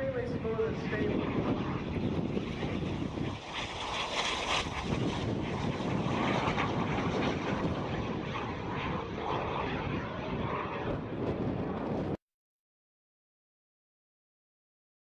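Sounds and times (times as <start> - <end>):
propeller airplane engine running: 0.0 - 12.2.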